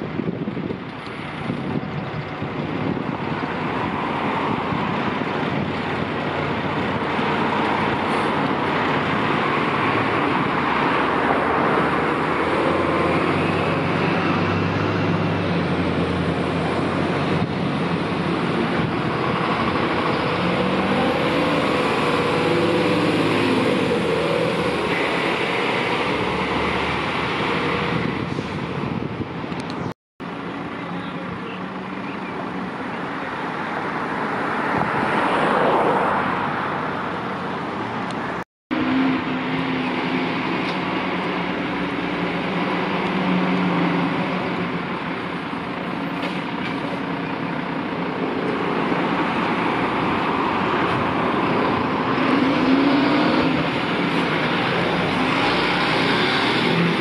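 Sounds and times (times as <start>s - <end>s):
diesel trucks pulling away: 0.0s - 57.0s.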